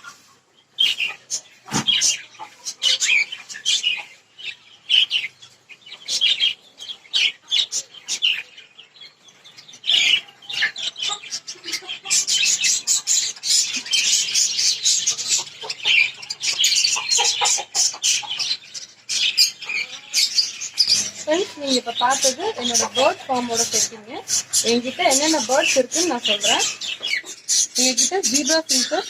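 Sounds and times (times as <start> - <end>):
caged birds chirping: 0.0 - 29.0.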